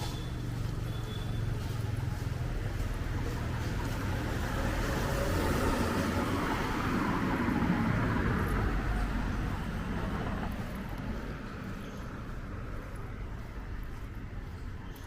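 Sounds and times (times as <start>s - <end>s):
low traffic hum: 0.0s - 15.0s
vehicle passing on wet road: 0.4s - 14.6s.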